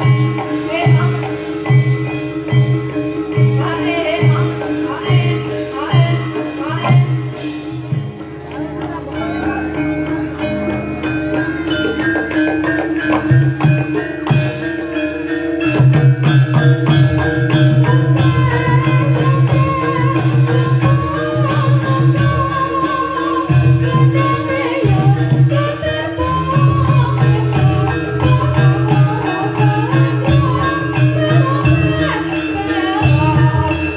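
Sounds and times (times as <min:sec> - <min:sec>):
gamelan drumming: 0:00.0 - 0:33.9
wavering melody line: 0:00.0 - 0:33.9.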